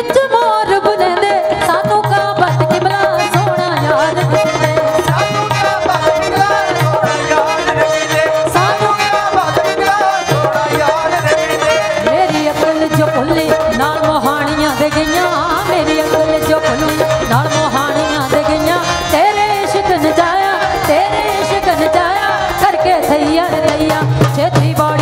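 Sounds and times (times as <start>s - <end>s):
keyboard: 0.0s - 25.0s
women singing: 0.0s - 25.0s.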